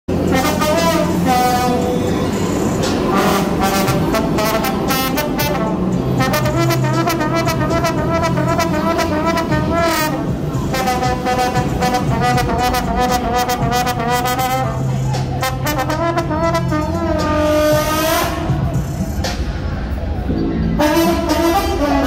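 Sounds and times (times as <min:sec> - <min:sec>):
trombone playing a melody: 0:00.1 - 0:02.1, 0:03.0 - 0:18.7, 0:20.6 - 0:22.0
backing track with steady beat: 0:00.1 - 0:22.0.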